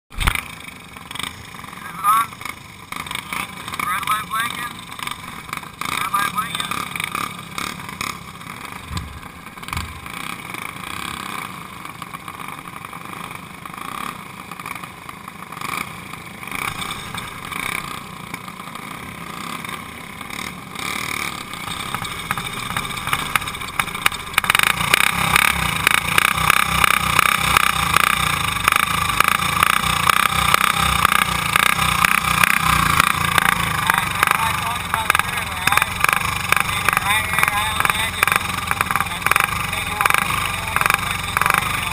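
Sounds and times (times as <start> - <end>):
kart engines running: 0.1 - 41.9
close engine firing rapidly: 0.2 - 14.2, 15.4 - 41.9.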